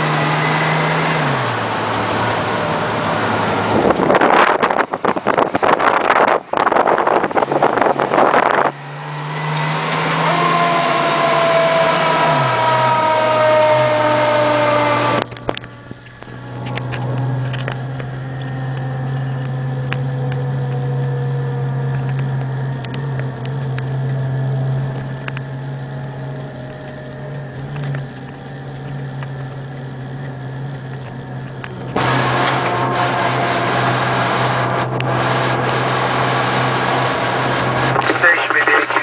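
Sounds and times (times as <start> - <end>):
fire engine siren: 0.0 - 4.5, 8.8 - 39.0
truck engine droning: 0.0 - 39.0.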